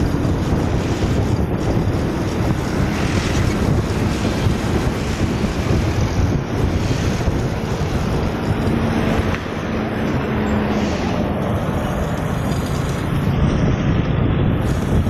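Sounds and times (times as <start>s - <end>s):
bus engine passing by: 0.0s - 15.0s
road traffic noise: 0.0s - 15.0s.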